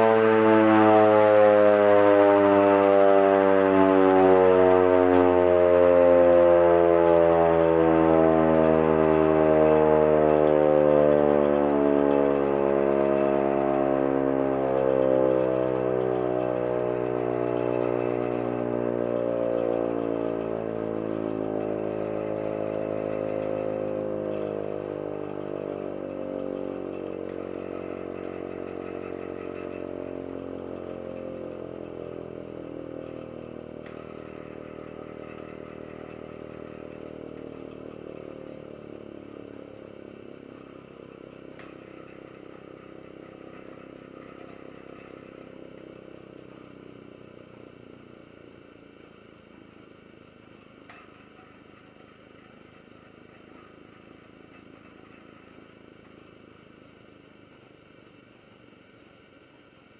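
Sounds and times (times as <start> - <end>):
air raid siren winding down: 0.0 - 58.2.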